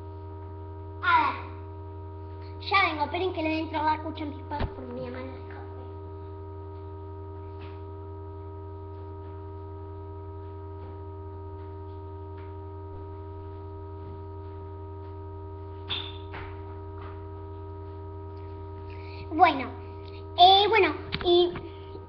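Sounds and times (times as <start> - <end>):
steady hum with higher tones: 0.0 - 22.0.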